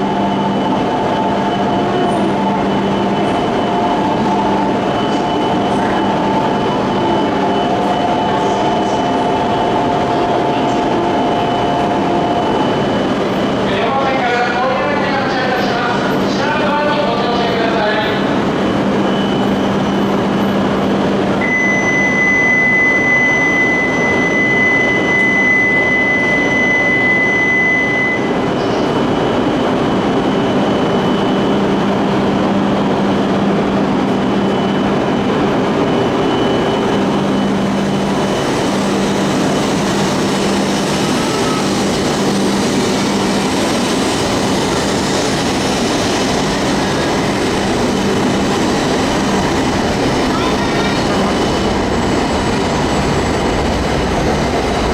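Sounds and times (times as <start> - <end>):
train running noise: 0.0 - 54.9.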